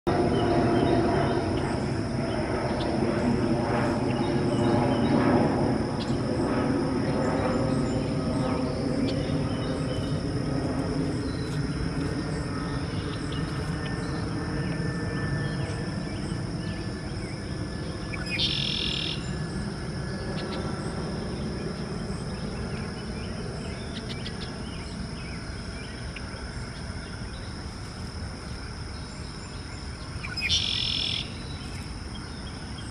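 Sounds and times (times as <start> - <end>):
low drone: 0.1 - 32.9.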